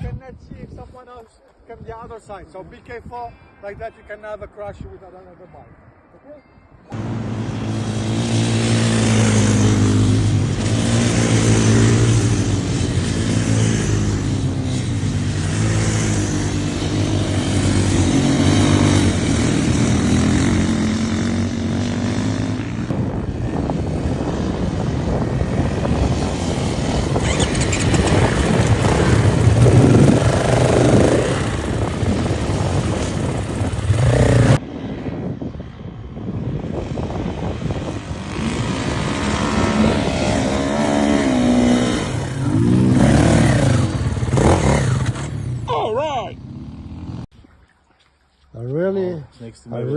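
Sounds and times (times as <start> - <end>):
motocross motorcycle engines revving: 6.9 - 47.3.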